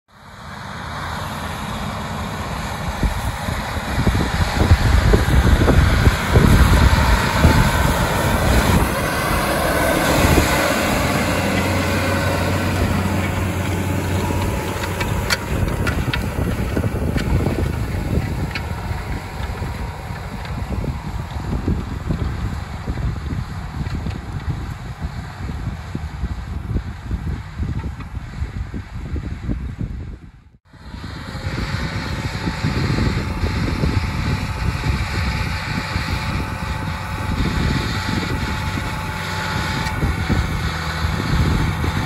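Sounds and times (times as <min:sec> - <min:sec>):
tractor engine running: 0:00.1 - 0:42.0.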